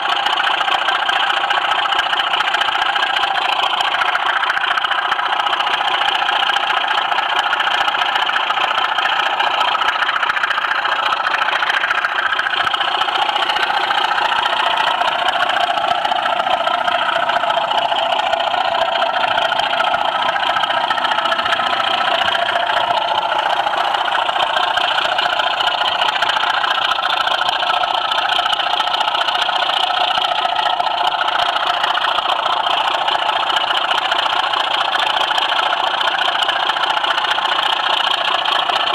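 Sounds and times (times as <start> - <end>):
model train motor whirring: 0.0 - 38.9.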